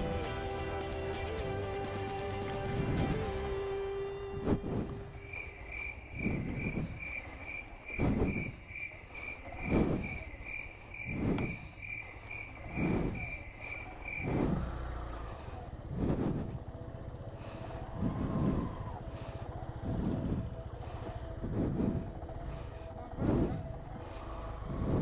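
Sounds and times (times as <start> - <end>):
insect chirping: 3.6 - 25.0.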